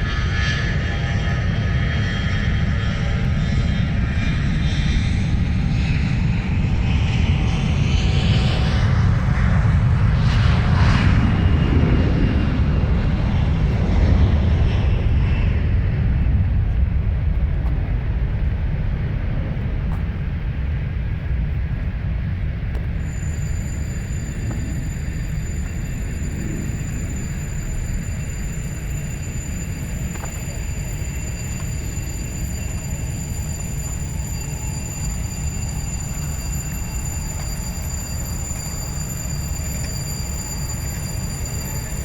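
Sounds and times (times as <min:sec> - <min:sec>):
helicopter engines whining: 0:00.0 - 0:21.5, 0:22.5 - 0:42.0
low rotor rumble: 0:00.0 - 0:42.0.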